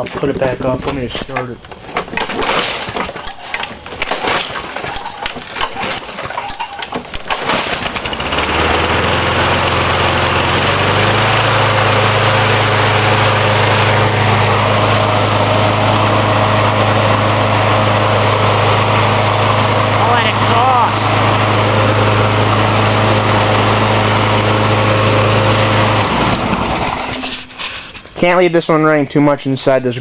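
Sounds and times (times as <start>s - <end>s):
lawn mower engine: 0.0s - 28.3s.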